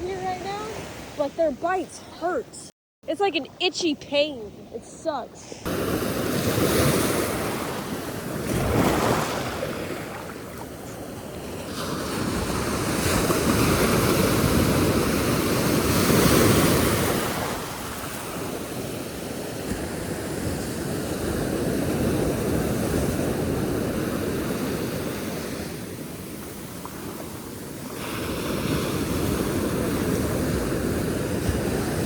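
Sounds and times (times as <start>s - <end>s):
ocean waves breaking on sand: 0.0s - 2.3s, 5.1s - 32.0s.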